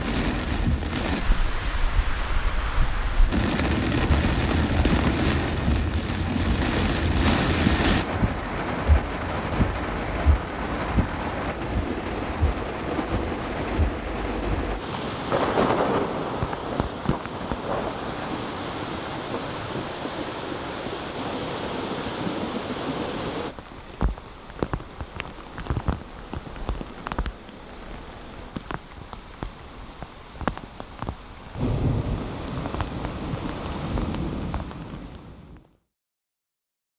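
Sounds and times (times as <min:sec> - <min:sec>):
heavy rain pouring: 0:00.0 - 0:23.6, 0:24.4 - 0:35.2.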